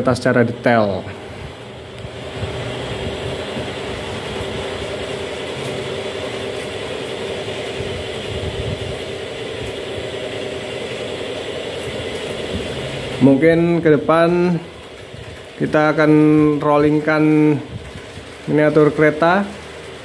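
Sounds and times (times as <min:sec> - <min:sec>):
locomotive motor hum: 0:00.0 - 0:20.0
train wagons rolling on rails: 0:00.0 - 0:20.0.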